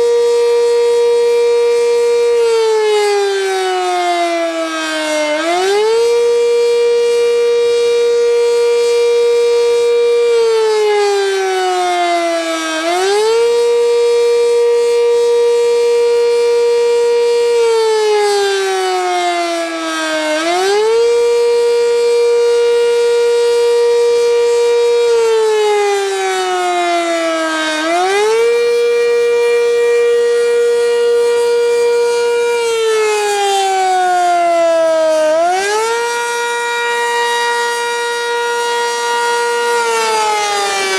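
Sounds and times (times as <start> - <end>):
outdoor warning siren: 0.0 - 40.9.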